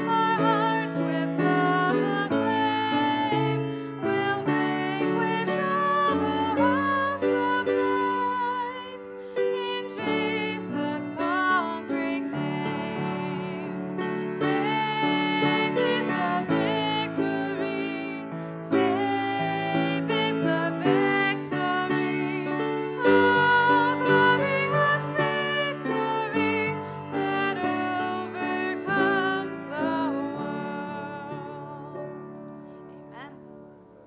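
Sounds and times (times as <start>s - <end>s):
woman singing slow song: 0.0s - 33.8s.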